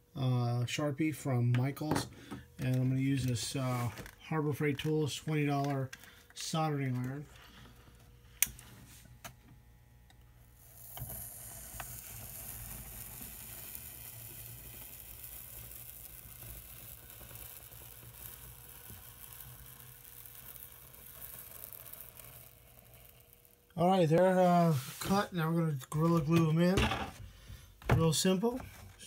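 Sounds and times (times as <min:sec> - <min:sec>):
soldering tip sizzling foam: 0:02.6 - 0:09.3, 0:10.3 - 0:27.2.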